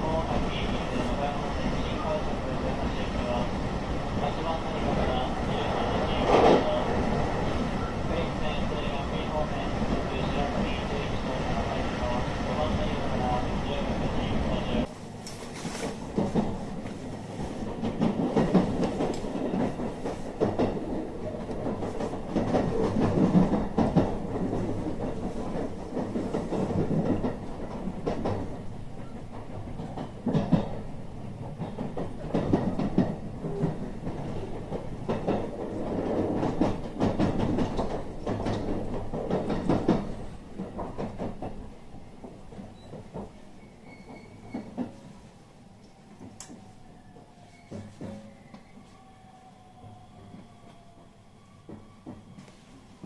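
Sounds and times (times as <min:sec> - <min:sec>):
train running gear rumble: 0:00.0 - 0:45.3.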